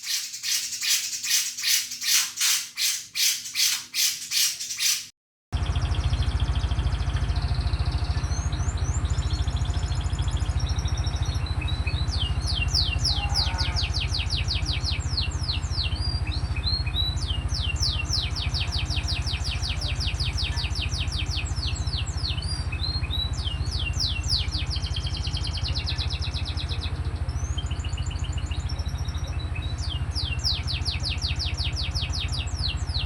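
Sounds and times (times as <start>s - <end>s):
songbird trilling: 0.0s - 6.2s, 10.7s - 33.0s
steady low hum: 5.6s - 33.0s.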